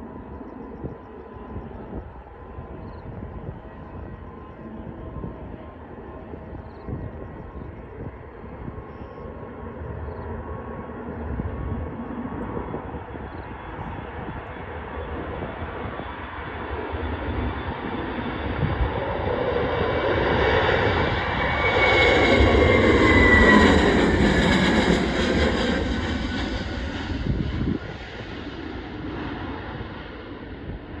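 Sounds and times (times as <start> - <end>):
jet airliner passing: 0.0 - 31.0
jet engine whine: 0.0 - 31.0.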